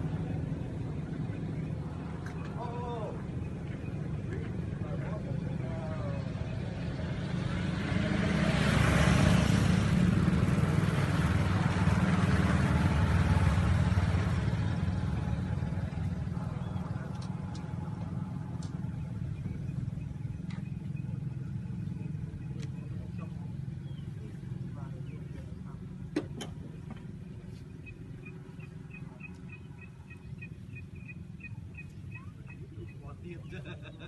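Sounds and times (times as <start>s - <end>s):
vehicle passing by: 0.0s - 34.0s.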